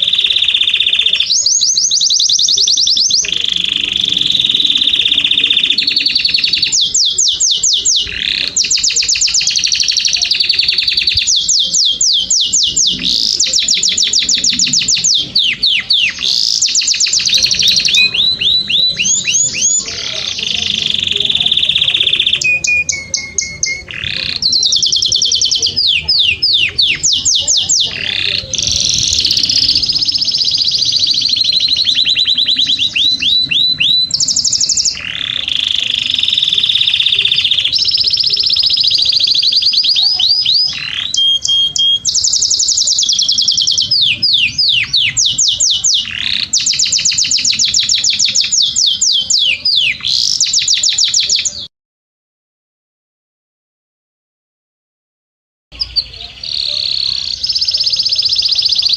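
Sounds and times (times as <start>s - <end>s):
canary singing trills: 0.0s - 51.7s, 55.7s - 58.9s.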